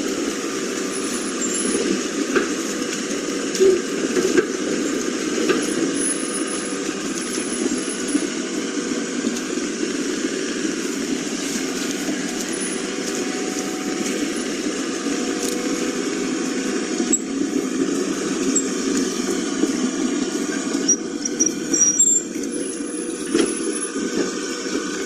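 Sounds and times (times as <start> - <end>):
heavy machinery engine drone: 0.0 - 25.0.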